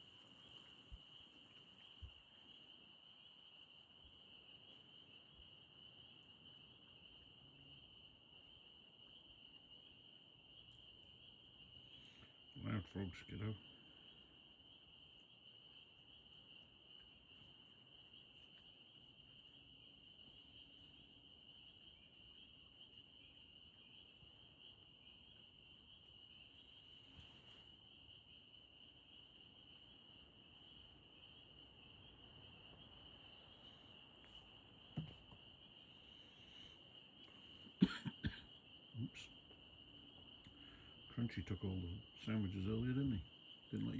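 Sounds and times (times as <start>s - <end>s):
frog chorus: 0.0s - 43.9s.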